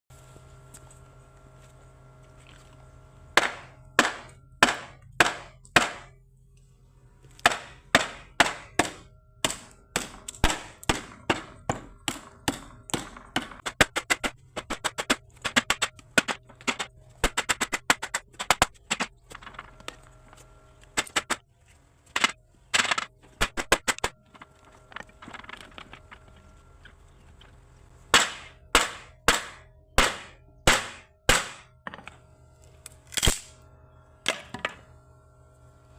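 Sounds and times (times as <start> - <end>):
faint steady hum: 0.1 - 35.9.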